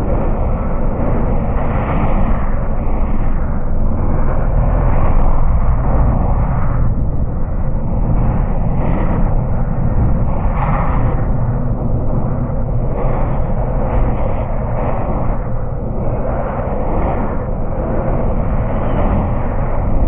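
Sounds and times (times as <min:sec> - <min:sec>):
deep rumbling noise: 0:00.0 - 0:20.0.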